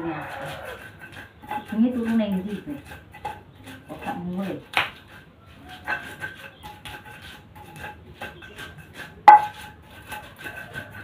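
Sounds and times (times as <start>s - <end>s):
pestle grinding in mortar: 0.1s - 11.0s.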